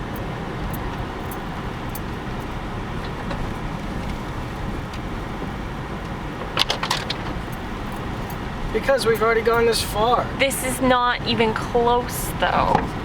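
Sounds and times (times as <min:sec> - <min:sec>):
car tyres and engine rumble: 0:00.0 - 0:13.0.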